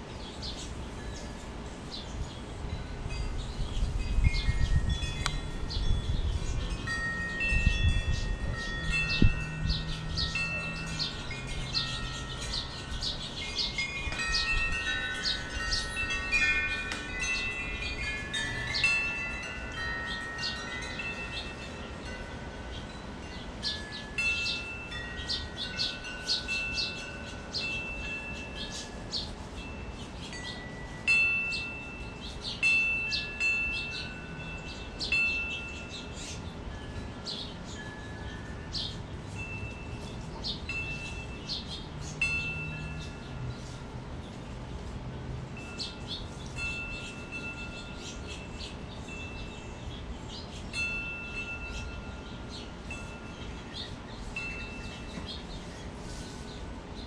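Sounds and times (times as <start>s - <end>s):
low rumble of wind: 0.0s - 57.0s
wind chimes ringing: 0.0s - 57.0s.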